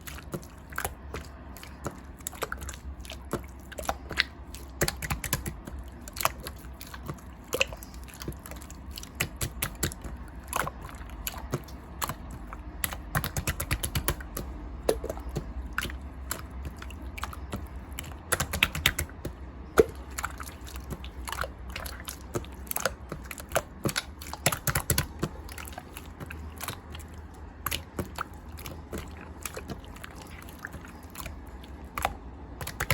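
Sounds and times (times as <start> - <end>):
slime squishing with sticky pops: 0.0 - 32.9.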